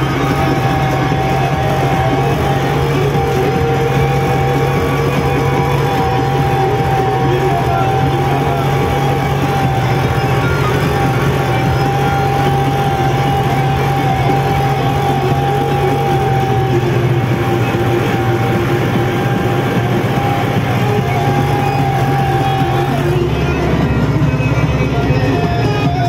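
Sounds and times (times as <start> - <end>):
diesel tractor engine running: 0.0 - 26.0
steady whining tone: 0.0 - 26.0.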